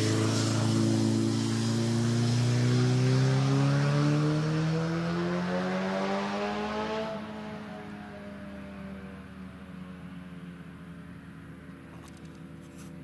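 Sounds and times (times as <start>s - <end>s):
tractor mechanical drone: 0.0s - 5.5s, 7.5s - 13.0s.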